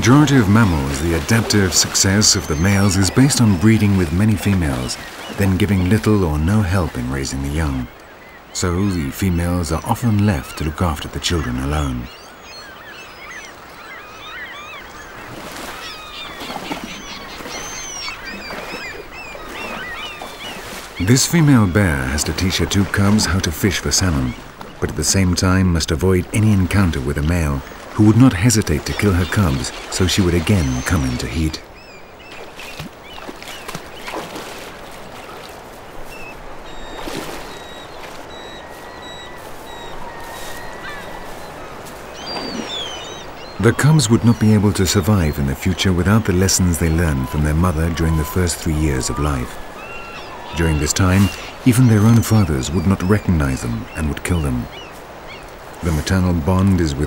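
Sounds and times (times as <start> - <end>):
gulls calling: 0.0 - 57.0
river water splashing: 0.0 - 57.0.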